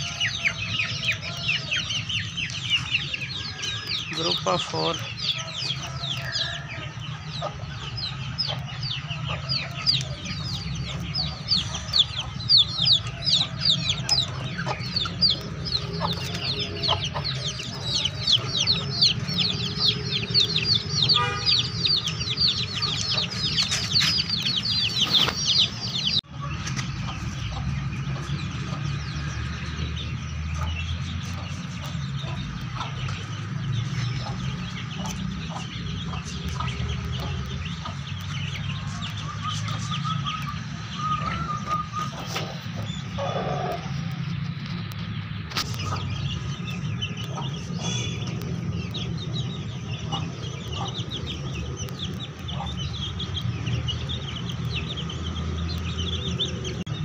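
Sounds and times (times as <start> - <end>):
chickens clucking: 0.0 - 57.0
chicks peeping: 0.0 - 57.0.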